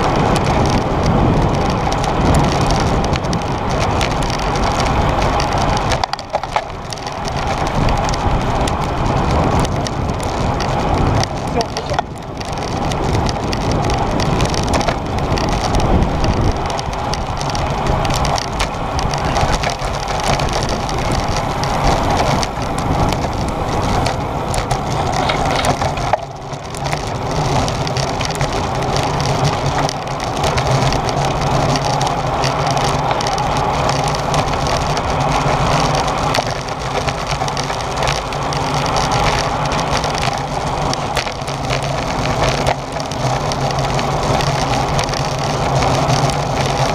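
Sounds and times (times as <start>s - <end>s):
bicycle tyre and frame rattle: 0.0s - 46.9s
wind rushing over microphone: 0.0s - 46.9s.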